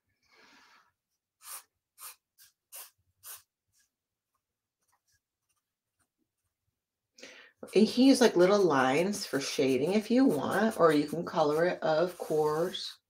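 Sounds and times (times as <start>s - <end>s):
marker drawing strokes on paper: 1.2s - 6.6s, 7.6s - 13.0s.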